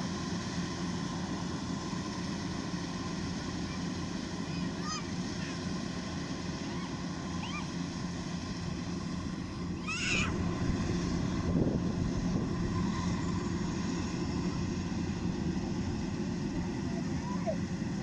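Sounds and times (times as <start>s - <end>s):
combine harvester droning: 0.0s - 18.0s.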